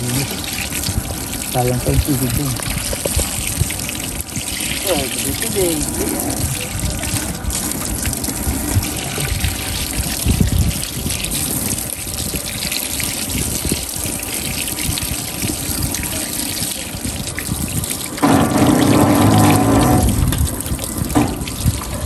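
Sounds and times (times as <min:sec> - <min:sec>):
faucet water running: 0:00.0 - 0:22.0
water splashing over fish: 0:00.0 - 0:22.0.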